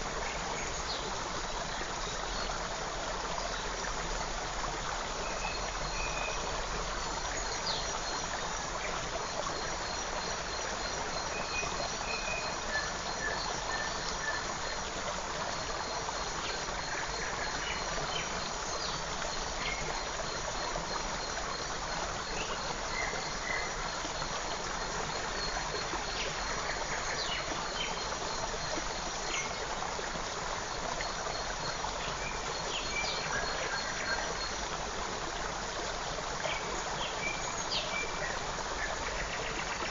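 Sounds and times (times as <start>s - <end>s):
creek flowing: 0.0s - 39.9s.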